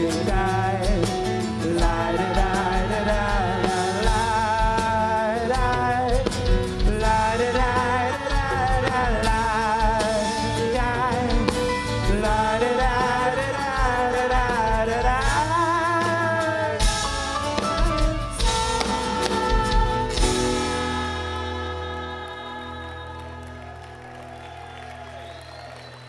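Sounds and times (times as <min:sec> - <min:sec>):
man singing with vibrato: 0:00.0 - 0:23.6
acoustic guitar: 0:00.0 - 0:24.6
drums: 0:00.0 - 0:26.0.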